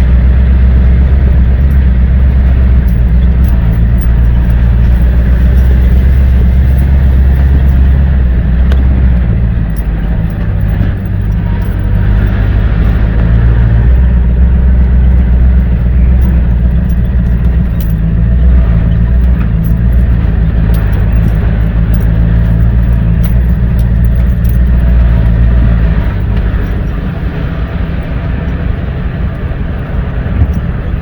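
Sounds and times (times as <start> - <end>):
small vehicle engine running: 0.0 - 31.0.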